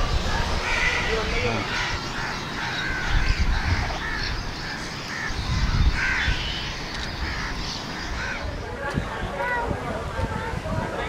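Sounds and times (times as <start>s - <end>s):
birds calling: 0.0s - 9.6s.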